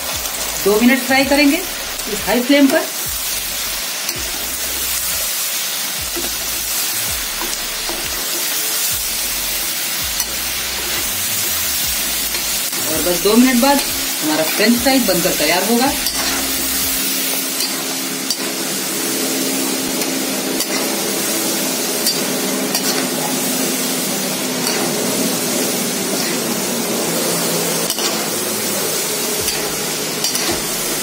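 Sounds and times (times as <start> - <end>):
fries sizzling in hot oil: 0.0 - 31.0.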